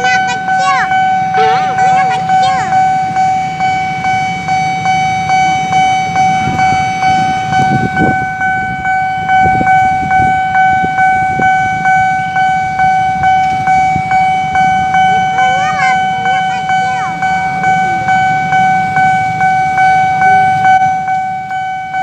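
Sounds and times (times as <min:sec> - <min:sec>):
low rumble of traffic: 0:00.0 - 0:22.0
railroad crossing bell ringing: 0:00.0 - 0:22.0.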